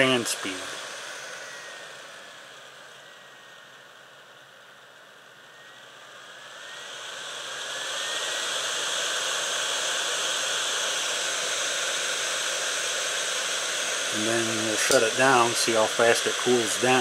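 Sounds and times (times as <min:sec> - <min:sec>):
faint motor whine: 0:00.0 - 0:17.0
hot air gun fan hissing: 0:00.0 - 0:17.0.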